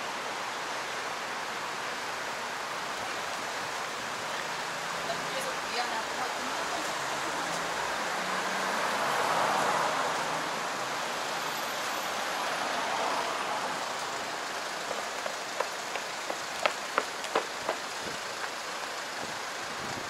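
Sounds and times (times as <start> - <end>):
street noise rushing hiss: 0.0 - 20.0.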